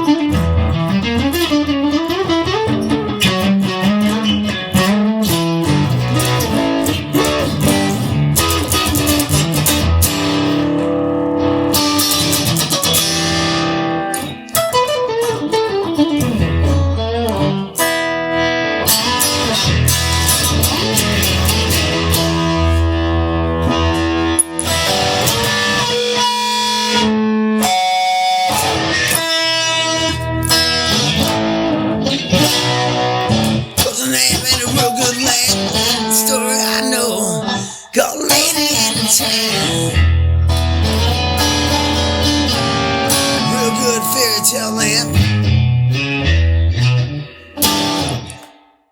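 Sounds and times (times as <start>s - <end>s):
electric guitar music: 0.0s - 48.8s.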